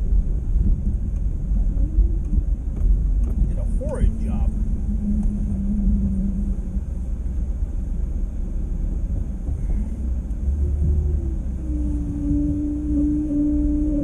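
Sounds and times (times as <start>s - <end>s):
car engine and road noise: 0.0s - 14.0s
steady hum: 0.0s - 14.0s.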